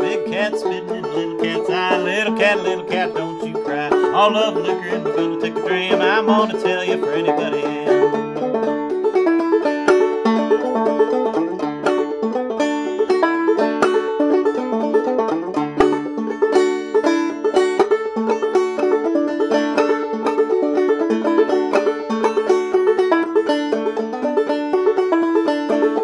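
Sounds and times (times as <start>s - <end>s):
banjo plucked notes: 0.0s - 26.0s.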